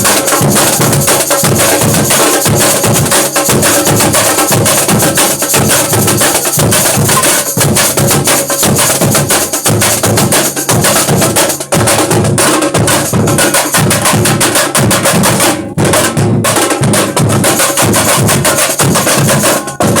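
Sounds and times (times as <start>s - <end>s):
drum troupe playing fast rhythm: 0.0s - 20.0s.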